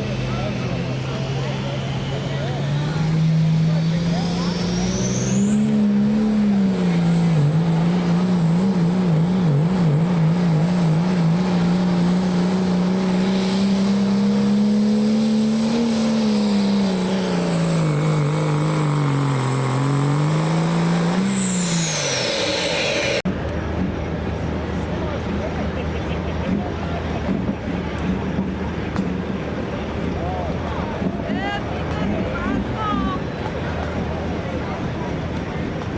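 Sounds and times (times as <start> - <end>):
diesel truck engine at full throttle: 0.0 - 35.9.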